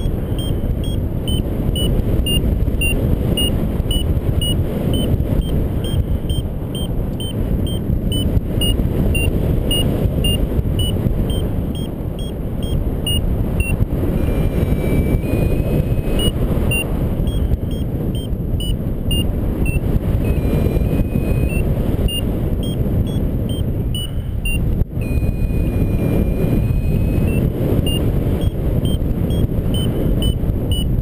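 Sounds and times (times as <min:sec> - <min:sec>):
rushing airflow on microphone: 0:00.0 - 0:31.0
variometer beeping: 0:00.0 - 0:31.0
variometer steady tone: 0:00.0 - 0:31.0.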